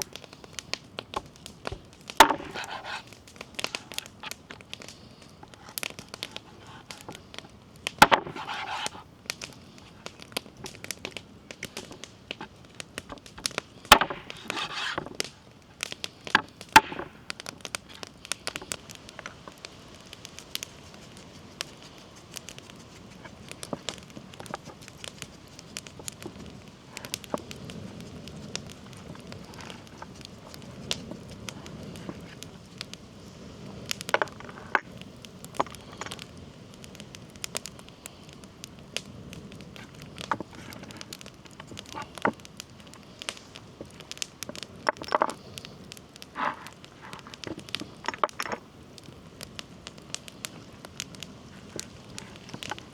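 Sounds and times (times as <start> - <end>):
fire pops: 0.0 - 52.9
wood fire crackling: 0.0 - 52.9.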